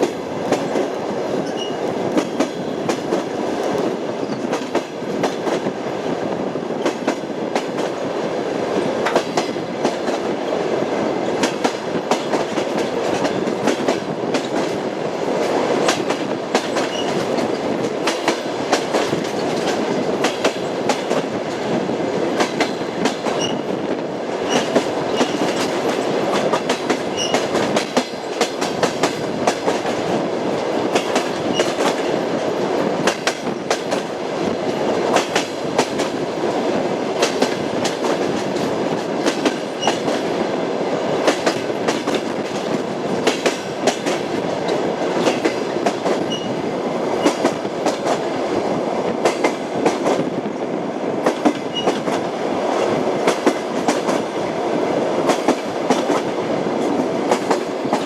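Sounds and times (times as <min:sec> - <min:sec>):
train rumble: 0:00.0 - 0:58.0
train wheels clacking on rails: 0:00.0 - 0:58.0.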